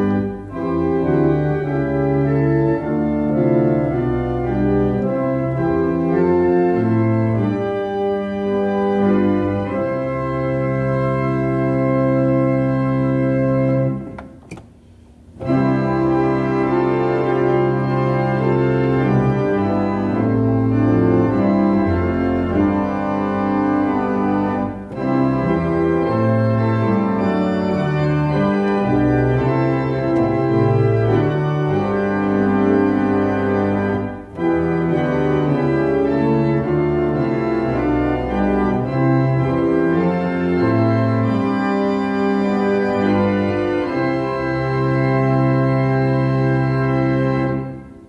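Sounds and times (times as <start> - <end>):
church organ playing a hymn: 0.0 - 14.4, 15.4 - 48.0.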